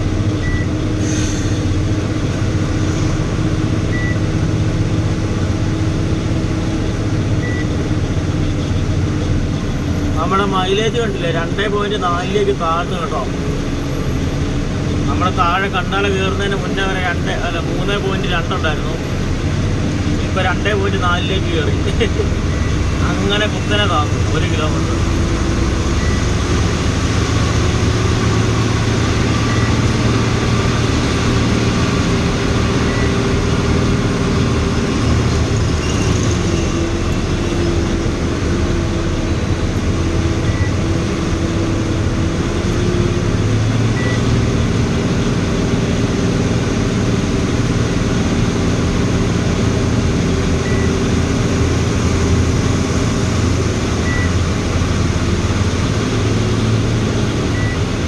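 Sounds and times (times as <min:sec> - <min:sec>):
diesel truck engine running: 0:00.0 - 0:58.0
road noise: 0:00.0 - 0:58.0.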